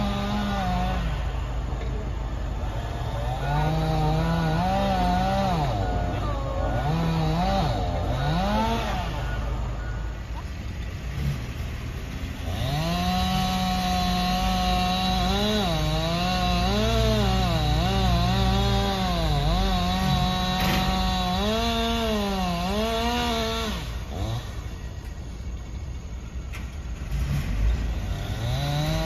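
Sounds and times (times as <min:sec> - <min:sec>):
wood chipper engine revving: 0:00.0 - 0:29.0.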